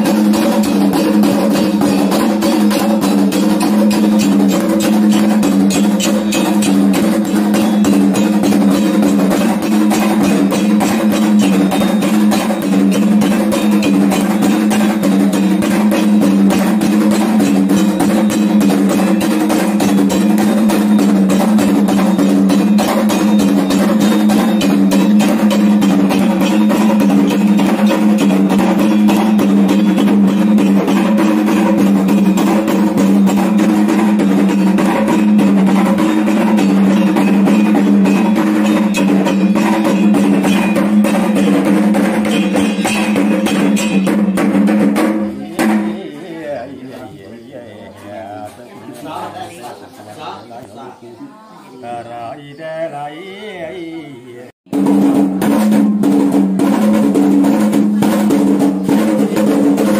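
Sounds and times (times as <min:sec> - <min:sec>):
drums beaten in fast rhythm: 0:00.0 - 0:47.1, 0:52.6 - 0:59.9.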